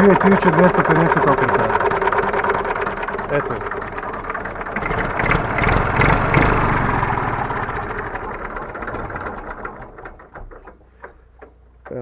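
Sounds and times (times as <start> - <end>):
diesel engine running: 0.0 - 11.2.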